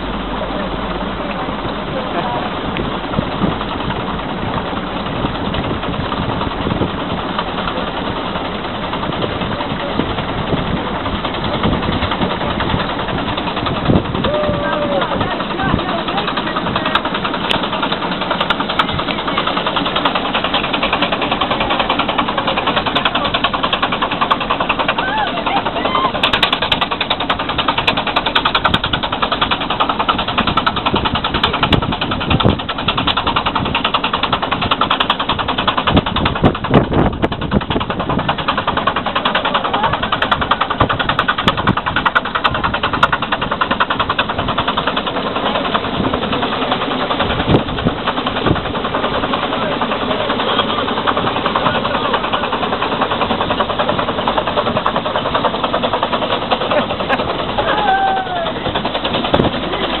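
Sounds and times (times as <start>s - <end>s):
steam engine beating: 0.0s - 60.0s.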